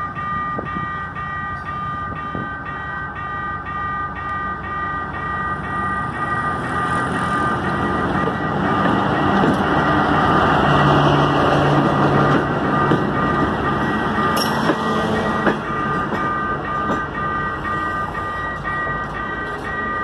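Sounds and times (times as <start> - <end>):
diesel train rumble: 0.0 - 20.0
level crossing alarm pulsing: 0.0 - 20.0.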